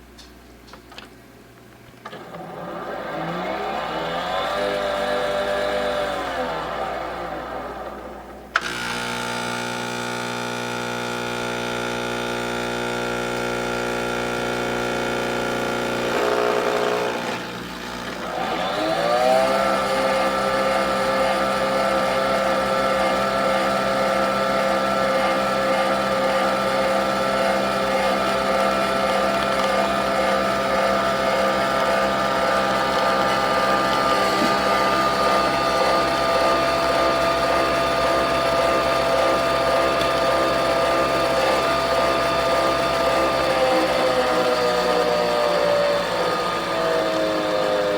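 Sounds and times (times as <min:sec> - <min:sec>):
coffee machine motor humming: 0:02.0 - 0:47.9.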